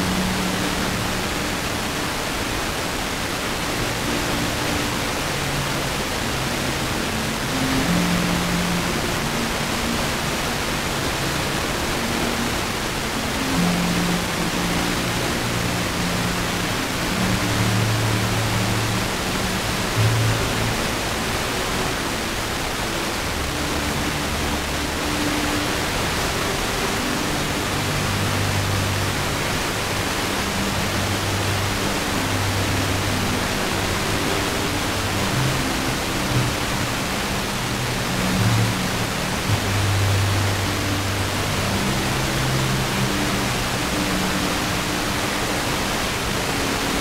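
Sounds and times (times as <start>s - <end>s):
faint classical music: 0.0s - 47.0s.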